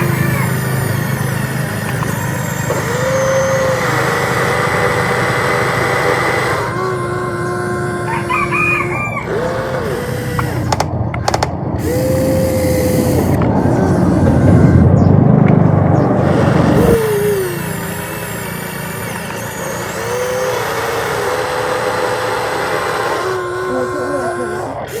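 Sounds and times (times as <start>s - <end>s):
hydraulic pump whining: 0.0s - 25.0s
motor hum: 0.0s - 25.0s.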